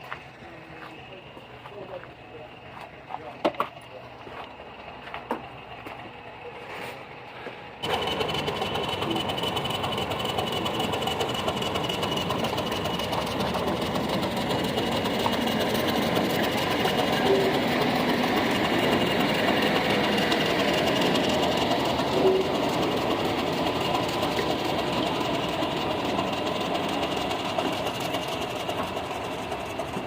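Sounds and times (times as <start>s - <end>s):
diesel locomotive engine clattering: 0.0s - 30.0s.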